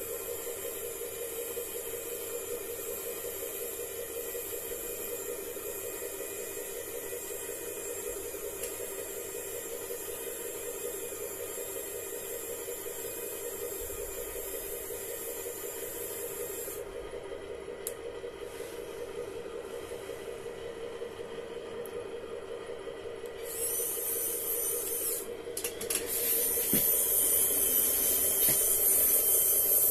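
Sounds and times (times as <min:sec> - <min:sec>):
mechanical hum: 0:00.0 - 0:29.9.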